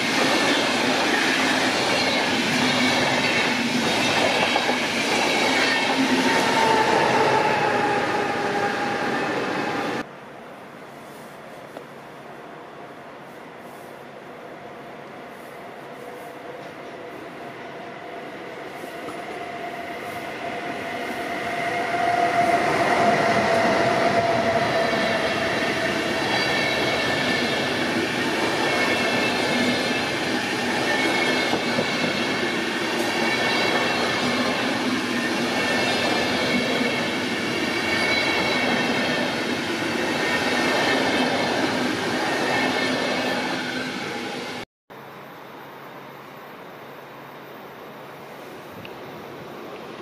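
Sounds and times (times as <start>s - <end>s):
electric locomotive passing: 0.0s - 10.6s, 12.2s - 44.6s.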